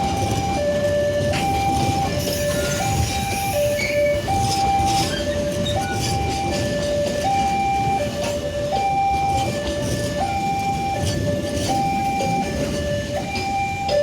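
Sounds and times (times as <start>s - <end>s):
two-tone crossing alarm: 0.0s - 14.0s.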